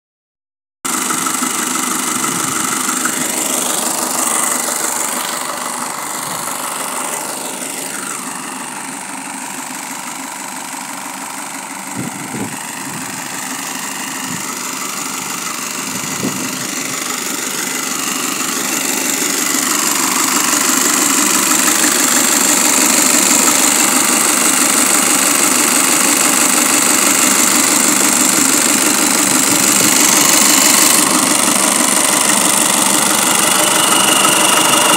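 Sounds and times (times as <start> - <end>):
diesel engine idling: 0.9 - 34.9.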